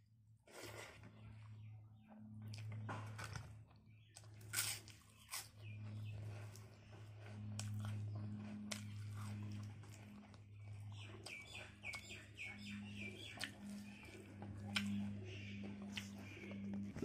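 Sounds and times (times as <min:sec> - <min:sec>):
steady low hum: 0:00.0 - 0:17.0
mouth clicks and crunches: 0:02.5 - 0:17.0
person chewing: 0:02.5 - 0:17.0.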